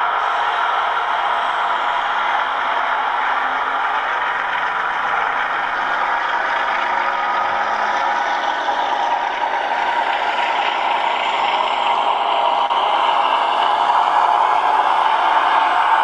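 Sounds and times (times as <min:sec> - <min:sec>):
model locomotive diesel engine sound: 0:00.0 - 0:16.0.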